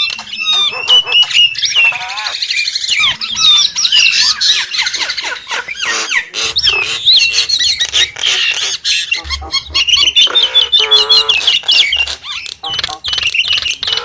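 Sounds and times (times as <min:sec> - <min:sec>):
myna whistles clicks and squawks: 0:00.0 - 0:14.0
harsh buzzing bird call: 0:00.5 - 0:14.0.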